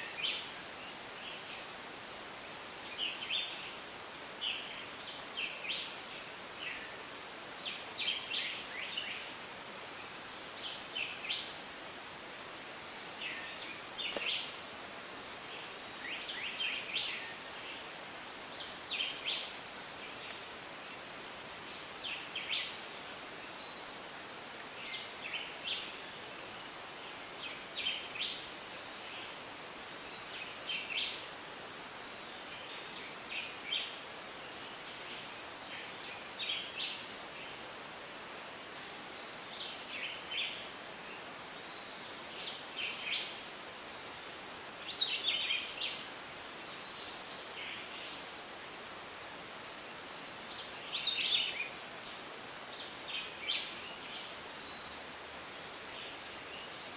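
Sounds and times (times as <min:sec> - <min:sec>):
steady background hiss: 0:00.0 - 0:56.9.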